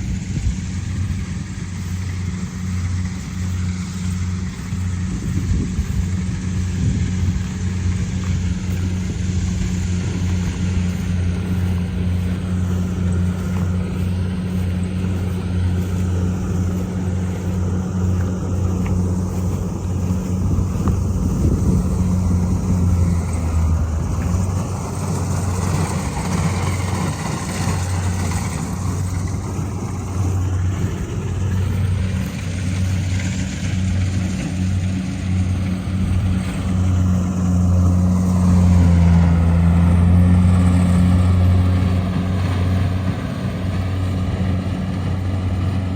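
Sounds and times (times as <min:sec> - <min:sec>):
harvester engine humming: 0:00.0 - 0:45.9.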